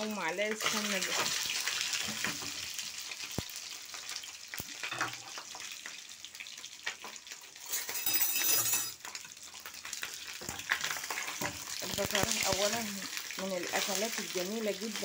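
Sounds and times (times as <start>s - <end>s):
sizzling with crackles and pops: 0.0s - 15.0s.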